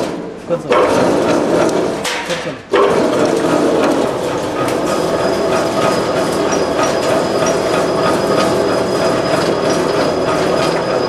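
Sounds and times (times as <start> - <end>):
roll forming machine clatter: 0.0 - 11.0.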